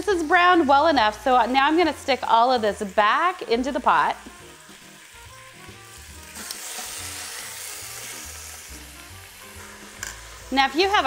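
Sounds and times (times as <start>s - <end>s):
meat sizzling in pot: 0.0s - 11.0s.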